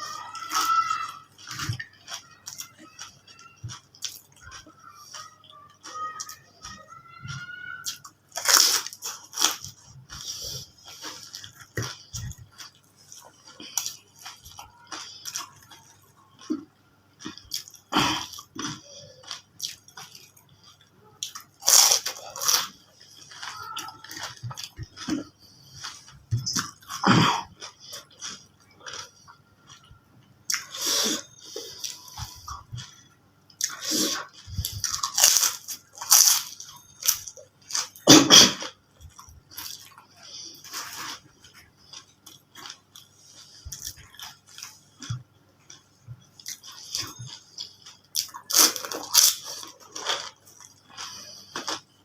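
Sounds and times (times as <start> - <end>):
chewing crunchy food: 0.0 - 52.0.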